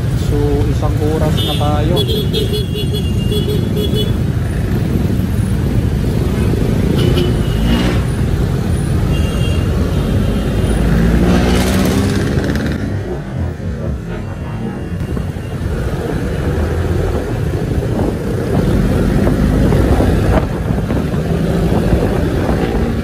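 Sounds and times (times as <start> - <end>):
surrounding traffic: 0.0 - 23.0
vehicle engine and road noise: 0.0 - 23.0.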